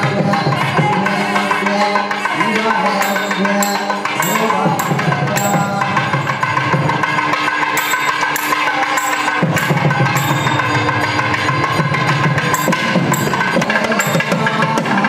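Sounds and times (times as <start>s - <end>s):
drumming: 0.0s - 15.0s.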